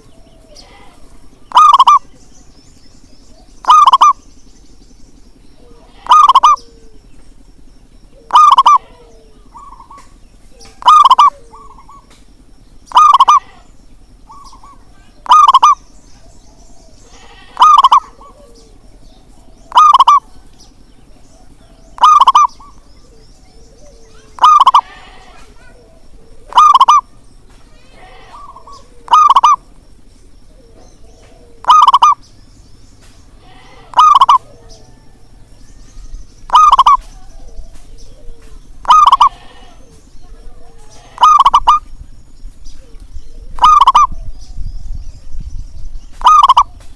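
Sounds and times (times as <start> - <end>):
dove cooing: 0.0 - 44.8, 46.1 - 46.9.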